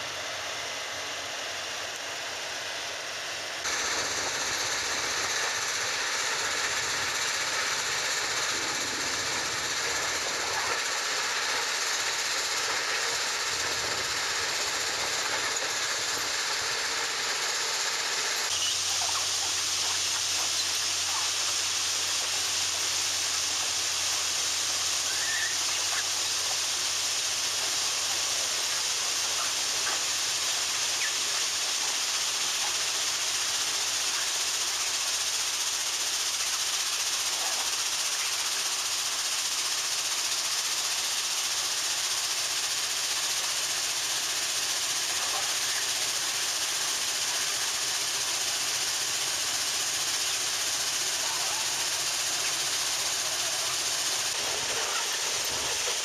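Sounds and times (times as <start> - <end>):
ballast cleaner machine rushing: 0.0 - 56.0
harsh hiss of conveyor: 0.0 - 56.0.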